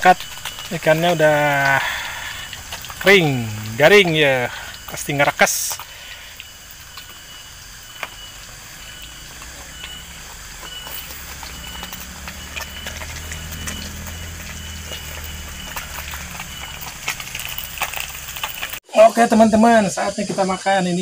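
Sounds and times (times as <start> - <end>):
faint high chirp: 0.0 - 1.8, 2.4 - 18.8
fire and oil crackling: 0.0 - 19.3.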